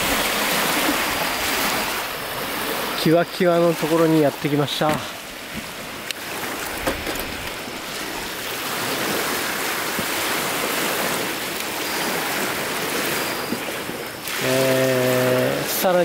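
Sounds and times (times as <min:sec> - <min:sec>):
lake waves washing on shore: 0:00.0 - 0:16.0.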